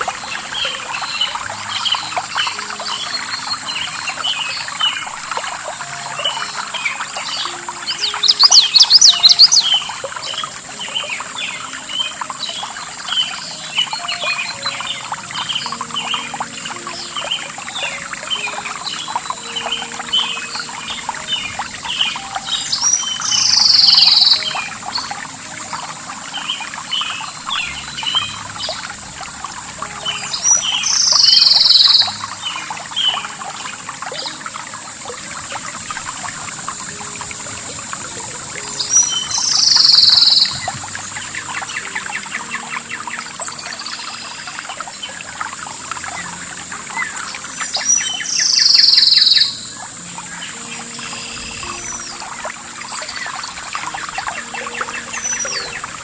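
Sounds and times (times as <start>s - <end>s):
bird chirps: 0.0s - 28.8s, 29.8s - 45.2s, 46.1s - 56.0s
running water: 0.0s - 56.0s
steady high hiss: 0.0s - 56.0s.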